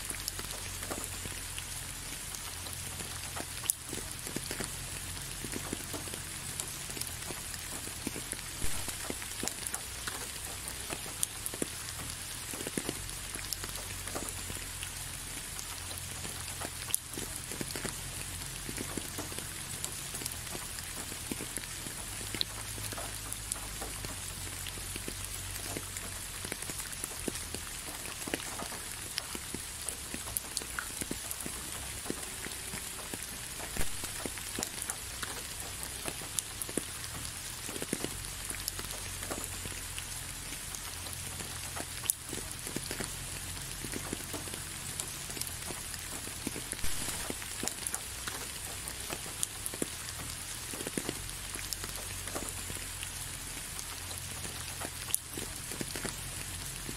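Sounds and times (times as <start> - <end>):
raindrops landing close by: 0.0 - 56.9
steady rain falling: 0.0 - 56.9.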